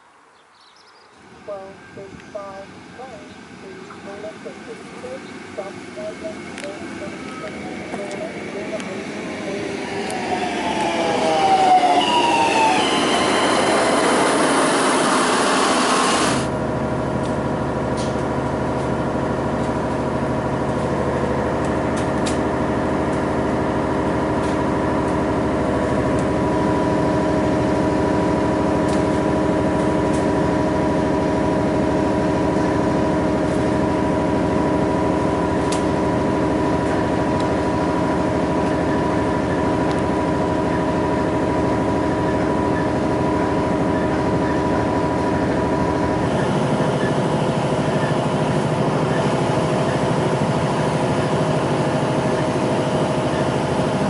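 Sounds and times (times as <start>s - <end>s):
railcar whine as it slows: 0.0s - 54.0s
diesel railcar engine drone: 1.0s - 54.0s.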